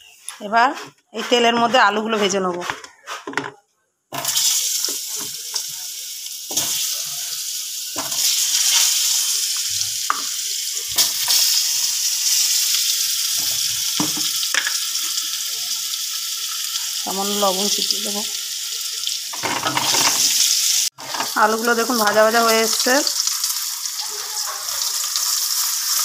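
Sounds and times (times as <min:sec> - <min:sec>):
potatoes sizzling in oil: 0:04.1 - 0:26.0.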